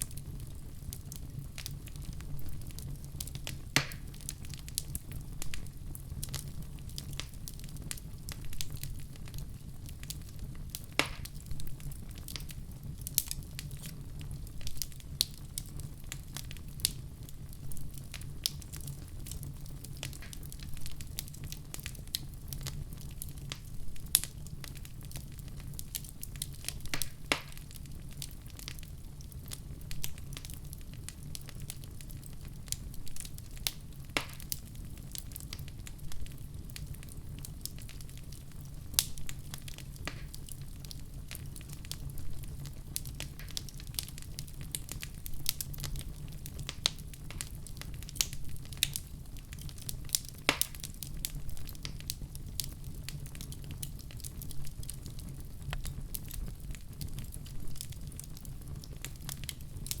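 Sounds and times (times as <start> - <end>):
low rumble of flames: 0.0 - 60.0
wood fire crackling and popping: 0.0 - 60.0.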